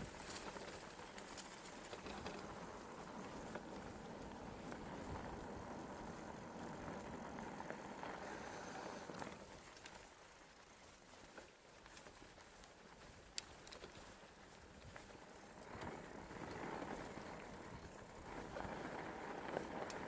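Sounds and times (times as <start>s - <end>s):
bike rattling: 0.0s - 20.0s
tyre noise on dirt: 0.0s - 20.0s.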